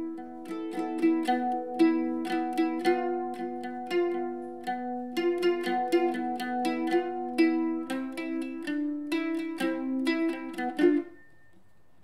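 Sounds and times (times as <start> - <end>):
mandolin plucked notes: 0.0 - 11.6.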